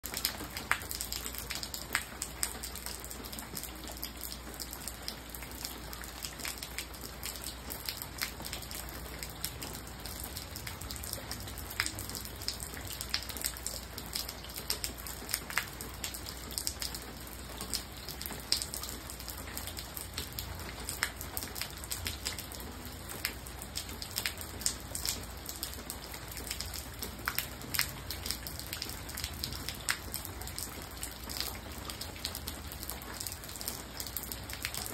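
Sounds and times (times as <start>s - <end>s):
raindrops tapping wet surface: 0.0s - 34.9s.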